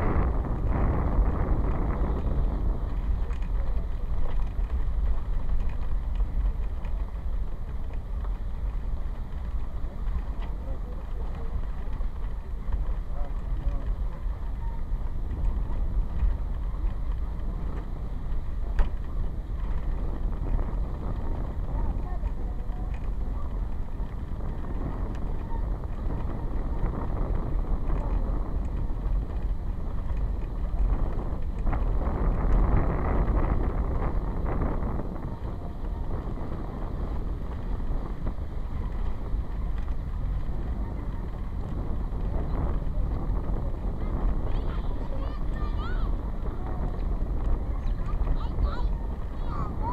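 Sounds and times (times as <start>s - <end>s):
low vehicle rumble: 0.0s - 49.9s
wind buffeting microphone: 0.0s - 49.9s.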